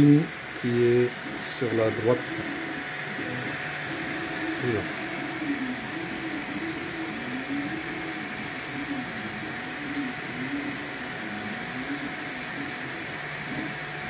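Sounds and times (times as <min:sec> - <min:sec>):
cooling fans whirring: 0:00.0 - 0:14.0
stepper motor whine: 0:00.0 - 0:14.0.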